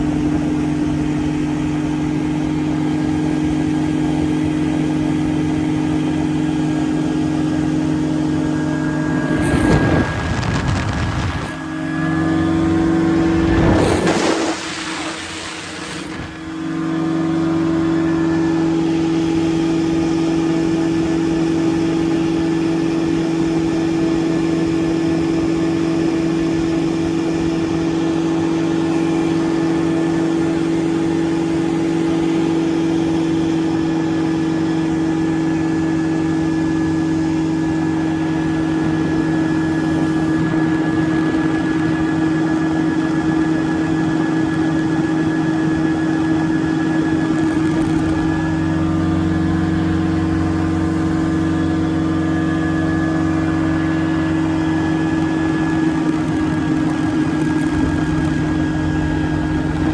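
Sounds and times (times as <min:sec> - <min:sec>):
ultralight aircraft engine droning: 0:00.0 - 0:59.9.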